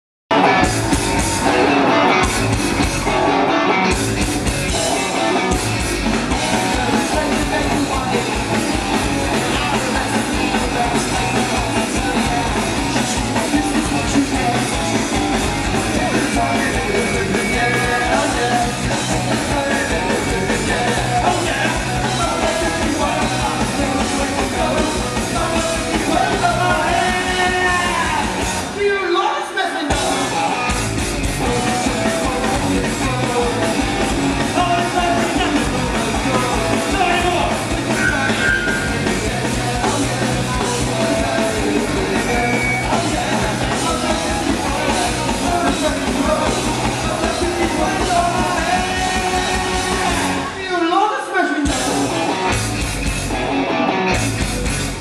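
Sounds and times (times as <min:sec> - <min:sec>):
rock band playing live: 0:00.3 - 0:55.0
lead vocal singing: 0:06.2 - 0:52.5.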